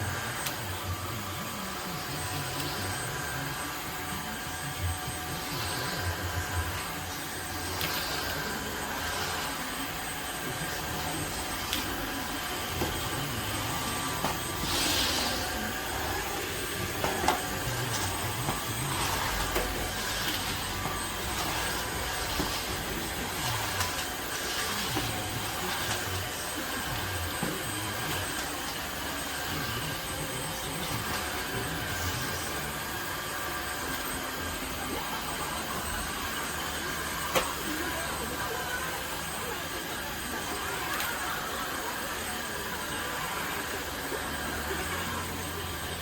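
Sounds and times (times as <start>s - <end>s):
vacuum motor whining: 0.0s - 46.0s.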